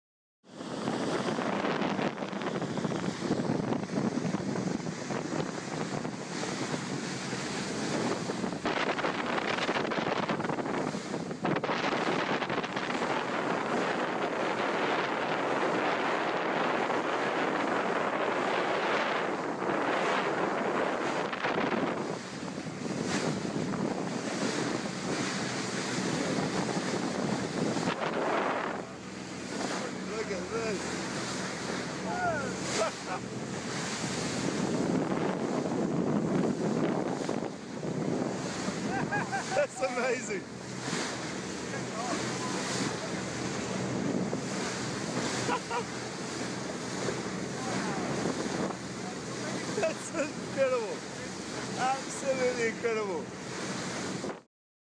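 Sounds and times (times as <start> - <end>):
sea water rushing: 0.4 - 54.5
wind blowing across microphone: 0.5 - 54.5.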